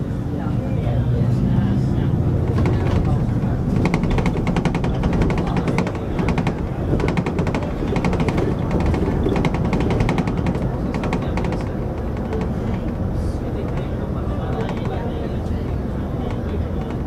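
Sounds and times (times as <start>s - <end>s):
bus engine low rumble: 0.0s - 17.0s
rapid rattling: 2.3s - 17.0s.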